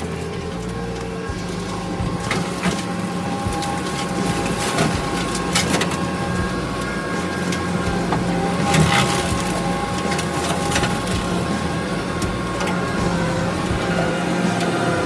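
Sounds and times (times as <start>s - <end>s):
brush cutter chewing brush: 0.0s - 15.0s
skid steer engine whining: 0.0s - 15.0s.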